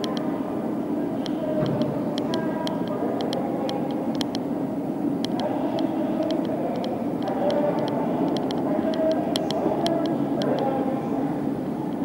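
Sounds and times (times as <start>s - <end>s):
railway station hum: 0.0s - 12.0s.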